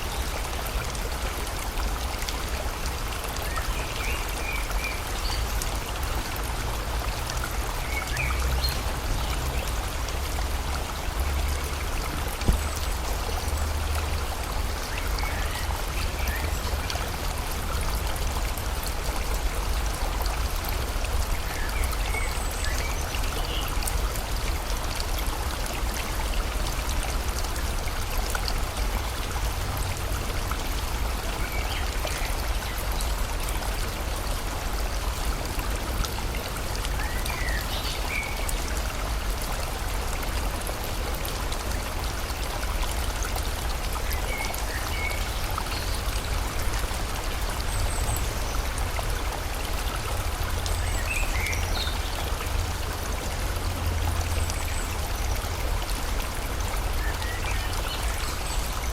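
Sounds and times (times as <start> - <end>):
rain falling: 0.0 - 58.9
river flowing: 0.0 - 58.9.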